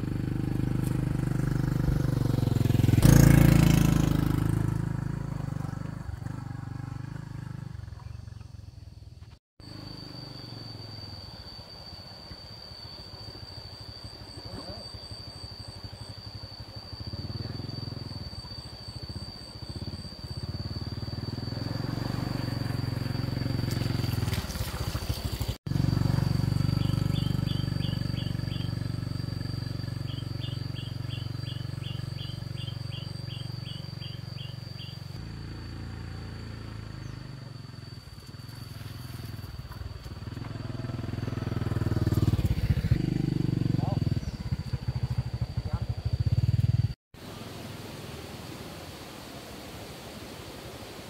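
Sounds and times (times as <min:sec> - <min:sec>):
small motorbike engine running: 0:00.0 - 0:11.0, 0:15.5 - 0:47.0.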